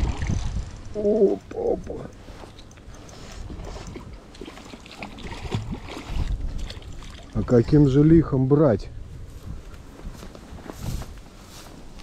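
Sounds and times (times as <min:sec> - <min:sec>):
wind buffeting microphone: 0:00.0 - 0:04.6, 0:05.2 - 0:11.4.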